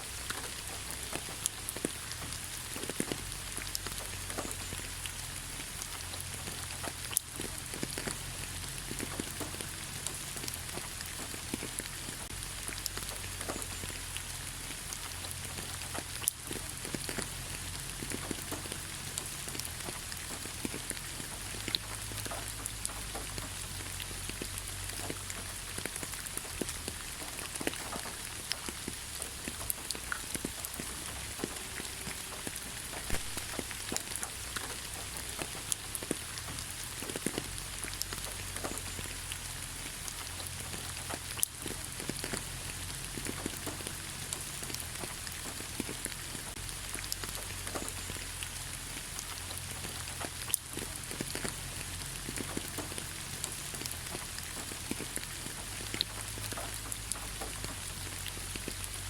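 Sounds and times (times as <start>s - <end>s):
rain falling on leaves: 0.0s - 59.0s
raindrops ticking: 0.0s - 59.0s.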